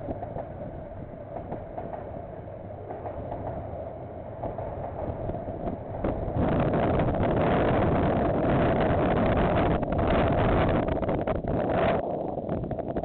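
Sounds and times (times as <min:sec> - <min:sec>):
freight train rumbling past: 0:00.0 - 0:13.0
wind gusting on microphone: 0:00.0 - 0:13.0.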